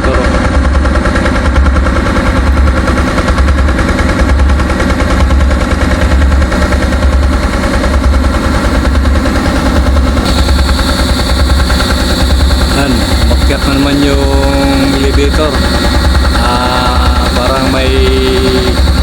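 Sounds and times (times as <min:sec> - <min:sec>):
engine pulsing beat: 0:00.0 - 0:19.0.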